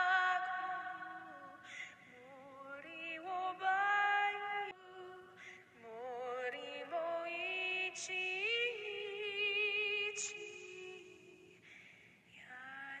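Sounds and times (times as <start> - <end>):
slow sung melody: 0.0 - 13.0.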